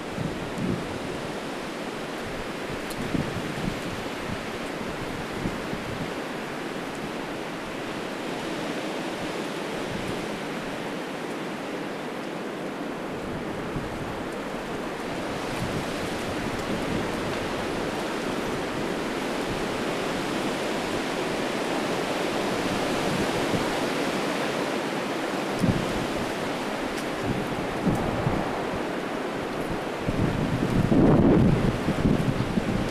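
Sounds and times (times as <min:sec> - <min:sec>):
wind rushing through trees: 0:00.0 - 0:32.9.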